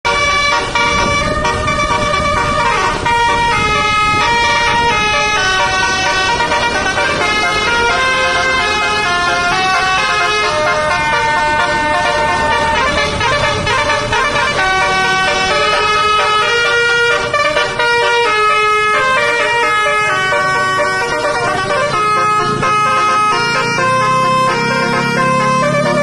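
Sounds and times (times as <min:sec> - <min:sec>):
bus horn playing a melody: 0:00.0 - 0:26.0.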